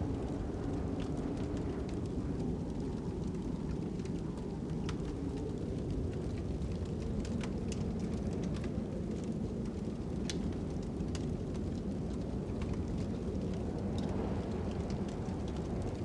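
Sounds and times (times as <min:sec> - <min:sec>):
fire crackling and popping: 0:00.0 - 0:16.0
low wind rumble: 0:00.0 - 0:16.0.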